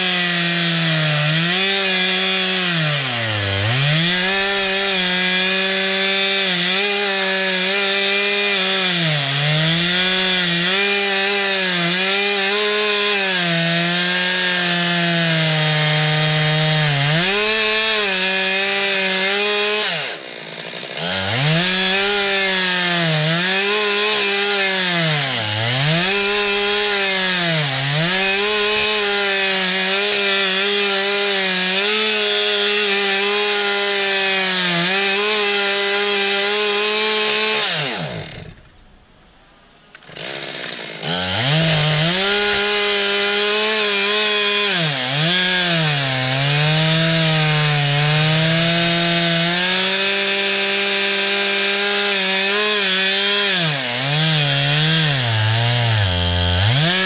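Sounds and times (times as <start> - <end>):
chainsaw cutting log: 0.0 - 39.0, 39.9 - 57.0.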